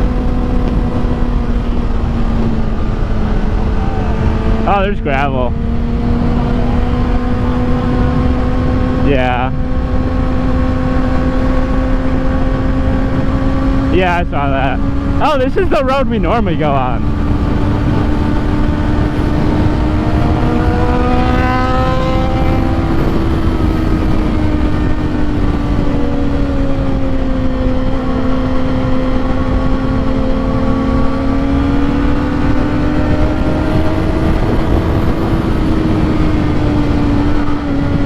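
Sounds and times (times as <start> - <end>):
motorcycle engine cruising: 0.0 - 38.0
second engine rising in pitch: 0.0 - 38.0
wind noise on microphone: 0.0 - 38.0.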